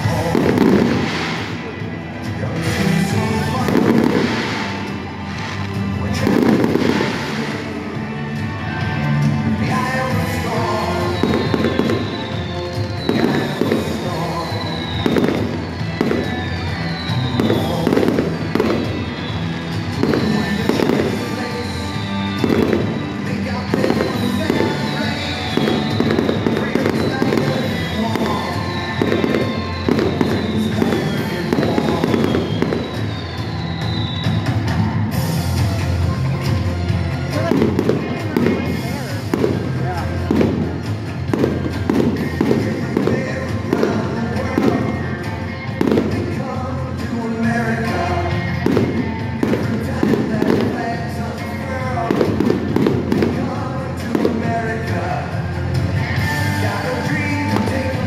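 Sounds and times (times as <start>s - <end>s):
fireworks booming: 0.0s - 1.9s, 2.6s - 8.0s, 10.5s - 34.9s, 37.3s - 46.4s, 48.5s - 55.1s
music playing: 0.0s - 58.0s.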